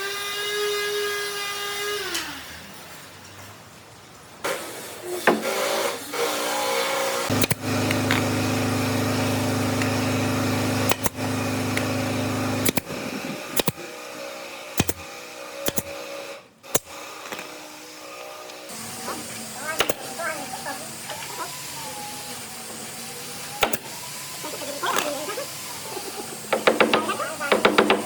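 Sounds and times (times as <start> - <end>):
power tool motor humming: 4.6 - 28.0.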